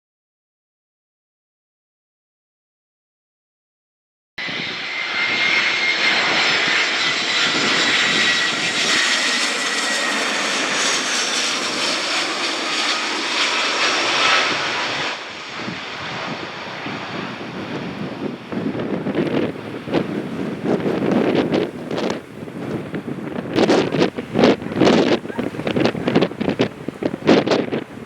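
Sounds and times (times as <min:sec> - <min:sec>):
airliner engines roaring: 0:04.4 - 0:28.0.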